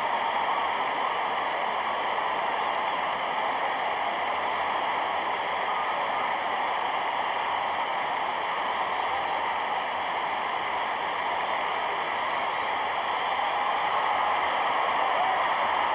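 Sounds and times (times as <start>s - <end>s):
steady hiss and static: 0.0s - 15.9s.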